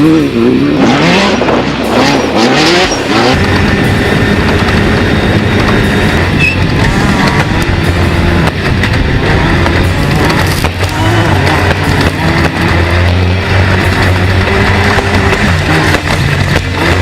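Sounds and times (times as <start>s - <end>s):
loud rough-terrain noise: 0.0s - 17.0s
race buggy engine revving high: 0.0s - 17.0s.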